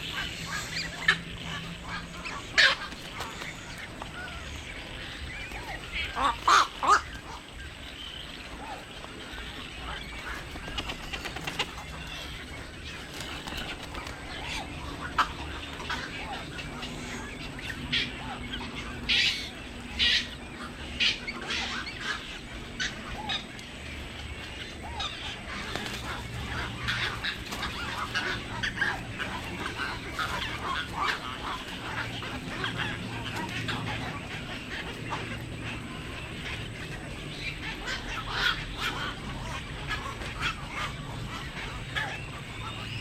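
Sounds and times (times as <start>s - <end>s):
birds honking: 0.0s - 43.0s
low steady hum: 0.0s - 43.0s.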